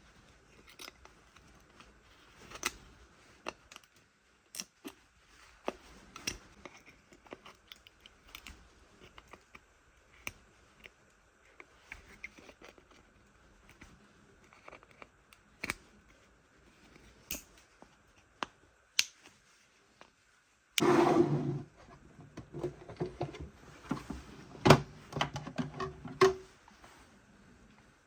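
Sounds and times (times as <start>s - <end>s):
faint room noise: 0.0s - 28.0s.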